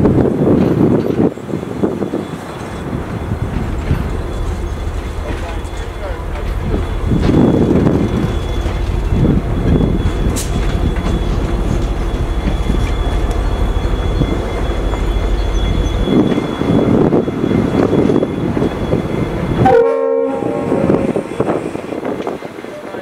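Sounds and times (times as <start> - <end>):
diesel locomotive engine rumble: 0.0 - 23.0
train wheels clattering on rails: 0.0 - 23.0
chord of steady tones: 2.1 - 22.2.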